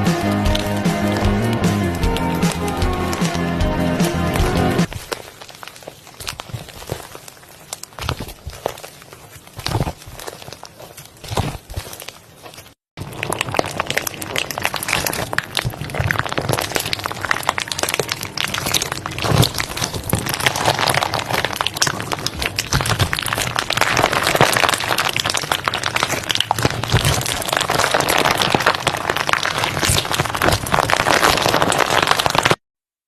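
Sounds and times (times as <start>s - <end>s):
crunchy slime squeezed by hand: 4.8s - 32.6s.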